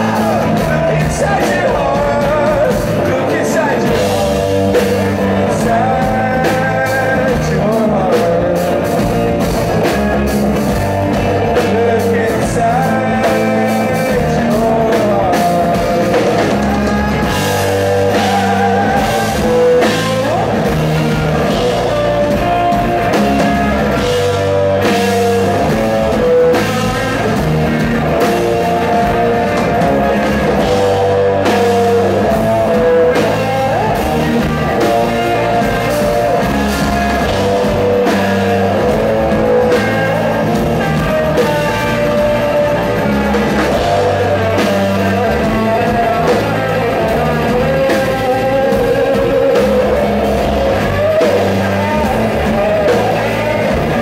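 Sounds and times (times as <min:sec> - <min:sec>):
live rock band playing: 0:00.0 - 0:54.0
man singing lead vocal: 0:00.0 - 0:54.0.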